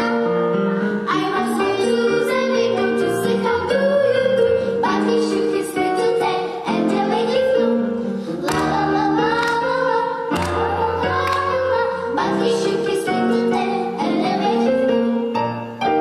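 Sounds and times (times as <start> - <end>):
girls singing a children's song: 0.0 - 15.3
instrumental accompaniment: 0.0 - 16.0.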